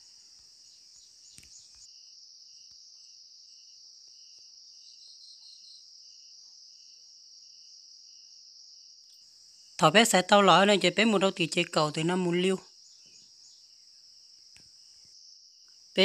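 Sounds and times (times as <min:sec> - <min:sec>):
high-pitched insect buzz: 0:00.0 - 0:09.8, 0:12.7 - 0:16.0
insect chirping: 0:00.0 - 0:16.0.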